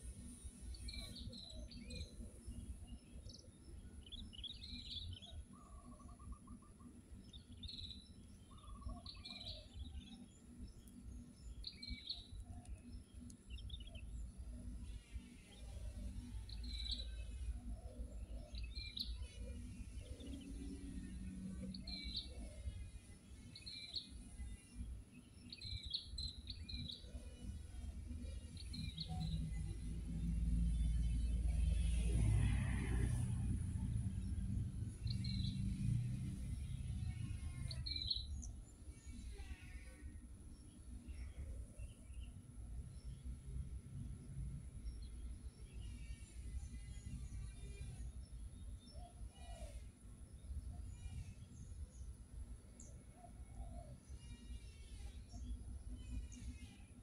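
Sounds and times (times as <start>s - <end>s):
small birds chirping: 0.0s - 32.2s, 33.0s - 57.0s.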